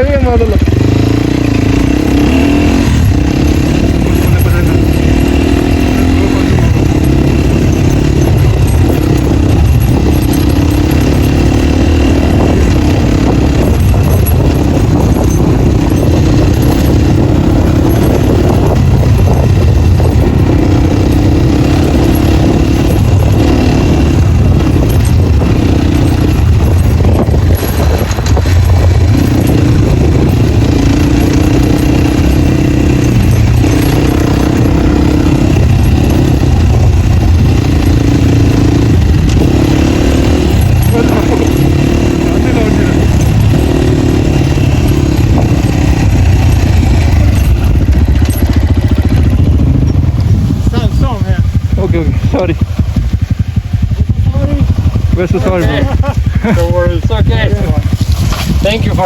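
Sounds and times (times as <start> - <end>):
off-road motorcycle engine revving: 0.0 - 59.0.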